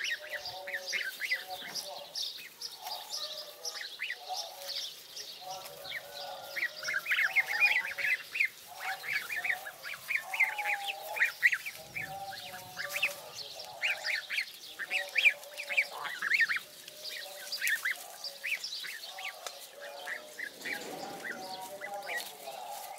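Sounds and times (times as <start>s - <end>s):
goslings peeping: 0.0s - 22.9s
soft low chatter: 0.0s - 22.9s.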